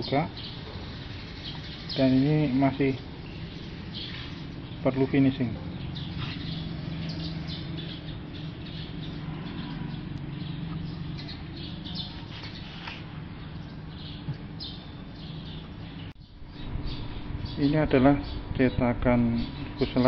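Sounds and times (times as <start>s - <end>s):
small birds chirping: 0.0s - 20.0s
steady low hum: 0.0s - 20.0s.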